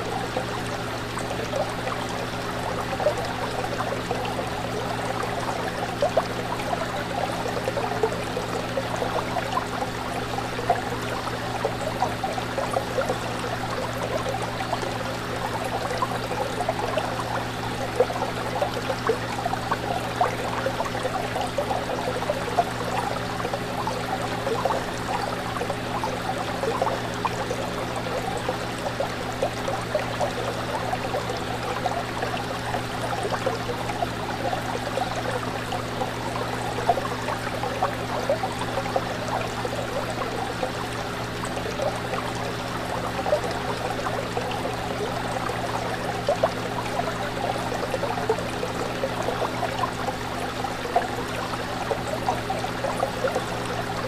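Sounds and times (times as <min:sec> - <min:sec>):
fish tank water bubbling: 0:00.0 - 0:54.0.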